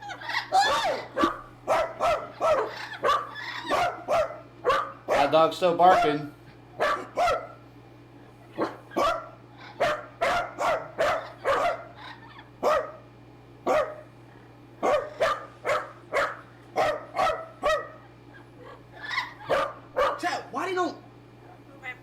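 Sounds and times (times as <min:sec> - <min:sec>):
dog barking: 0:00.2 - 0:07.6, 0:08.5 - 0:14.1, 0:14.8 - 0:20.3.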